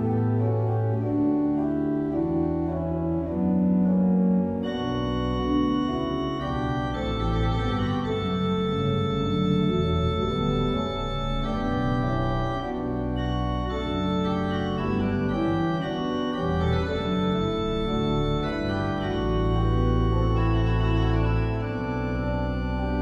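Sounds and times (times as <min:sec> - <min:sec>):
deep organ pedal notes: 0:00.0 - 0:23.0
pipe organ chords: 0:00.0 - 0:23.0.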